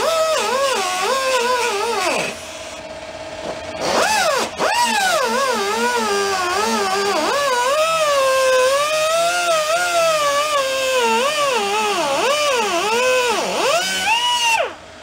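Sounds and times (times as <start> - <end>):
cut-off wheel cutting metal: 0.0 - 2.8, 3.4 - 14.8.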